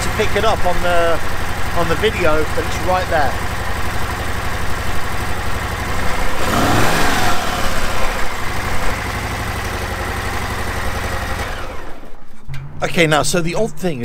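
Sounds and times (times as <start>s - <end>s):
motorcycle engine idling and revving: 0.0s - 12.4s.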